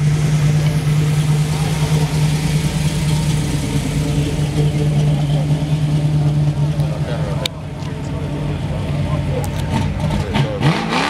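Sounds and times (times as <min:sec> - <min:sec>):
car engine revving steadily: 0:00.0 - 0:11.0.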